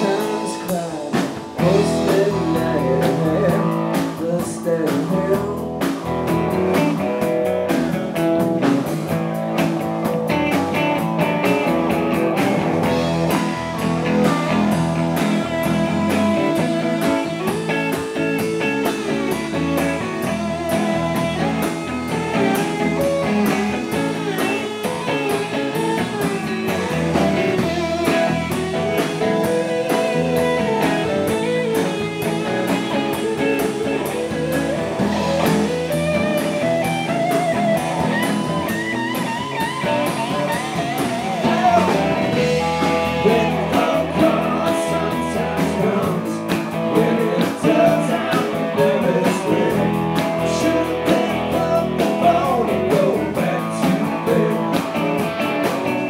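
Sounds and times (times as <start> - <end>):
bent wavering guitar notes: 0.0 - 56.0
blues-rock band playing: 0.0 - 56.0.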